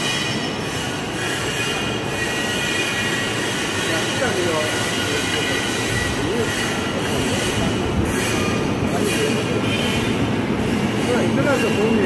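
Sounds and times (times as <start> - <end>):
factory machinery hum and hiss: 0.0 - 12.0.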